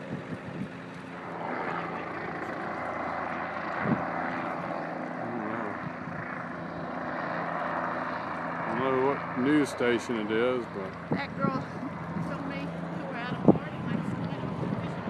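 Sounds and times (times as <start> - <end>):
engine drone with rushing noise: 0.0 - 15.0.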